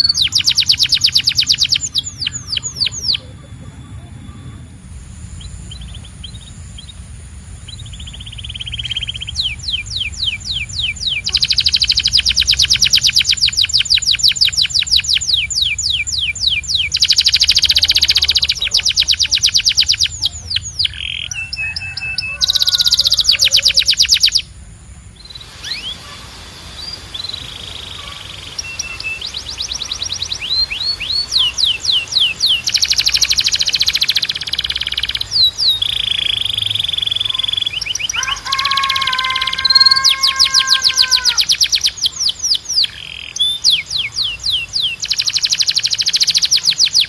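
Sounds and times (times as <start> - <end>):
canary singing trills: 0.0 - 47.0
low steady hum: 0.0 - 47.0.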